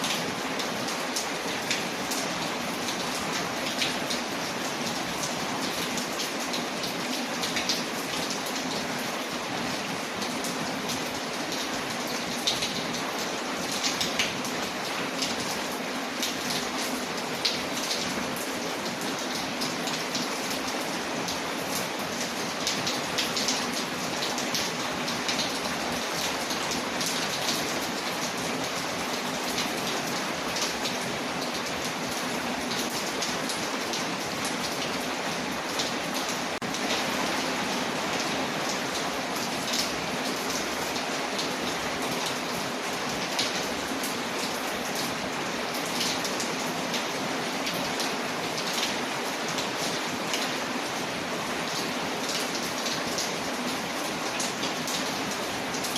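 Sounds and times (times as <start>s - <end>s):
rain pattering on a window: 0.0s - 55.9s.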